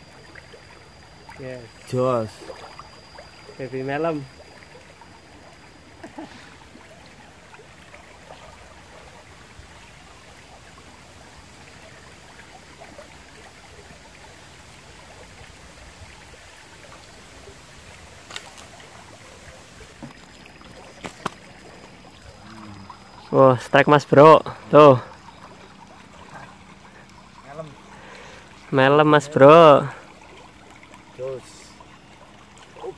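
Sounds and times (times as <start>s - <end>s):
shallow river trickling: 0.0s - 32.9s.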